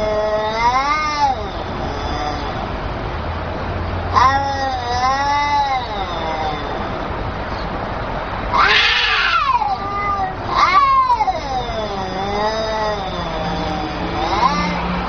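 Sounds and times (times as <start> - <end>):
cats yowling: 0.0 - 15.0.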